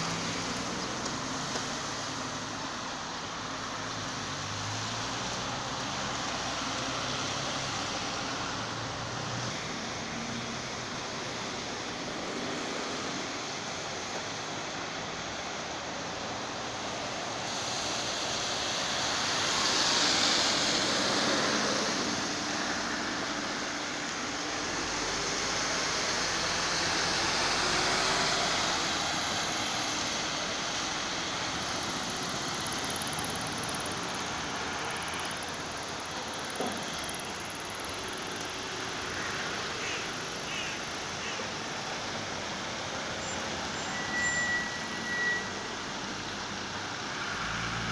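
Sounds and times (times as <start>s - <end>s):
bus passing: 0.0s - 47.9s
street traffic noise: 0.0s - 47.9s.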